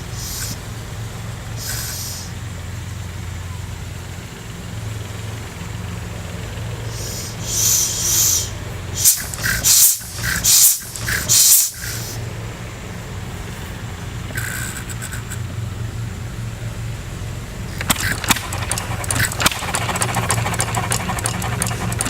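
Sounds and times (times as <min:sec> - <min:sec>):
sharp hissing bursts: 0:00.0 - 0:03.4, 0:04.9 - 0:22.0
engine running: 0:00.0 - 0:22.0.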